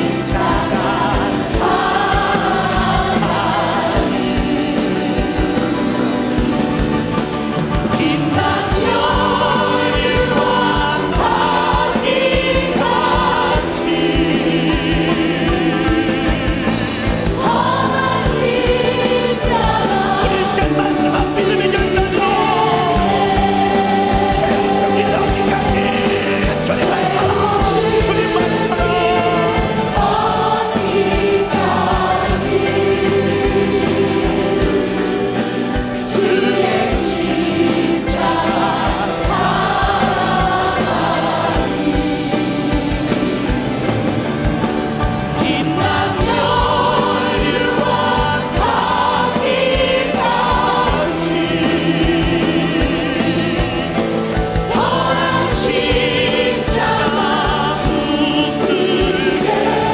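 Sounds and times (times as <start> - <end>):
band accompaniment: 0.0 - 59.9
choir singing a hymn: 0.0 - 59.9
steady drum beat: 0.0 - 59.9.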